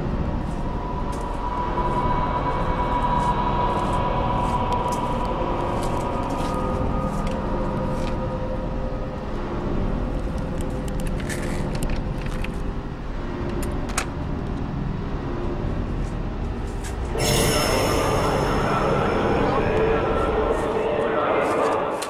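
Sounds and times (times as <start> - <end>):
rumbling drone with held tones: 0.0 - 22.0.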